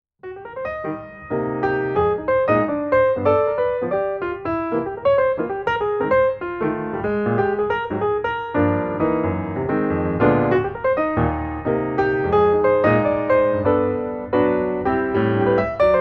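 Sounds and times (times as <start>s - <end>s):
piano music: 0.2s - 16.0s.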